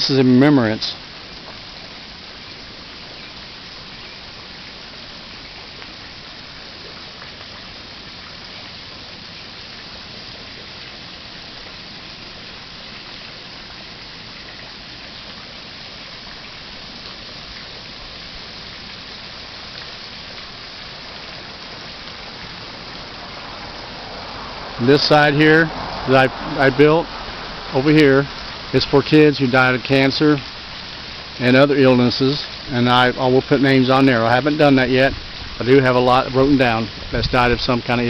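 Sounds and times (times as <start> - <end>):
waterfall pouring into pond: 0.0 - 38.0.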